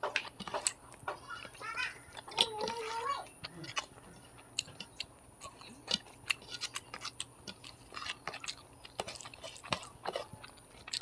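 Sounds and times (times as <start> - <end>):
mouth chewing wet smacks: 0.0 - 11.0.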